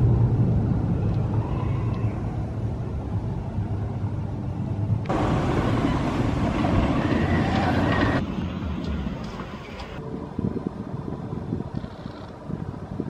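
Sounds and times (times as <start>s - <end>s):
distant rumble: 0.0s - 13.0s
roller coaster rumbling on track: 0.0s - 13.0s.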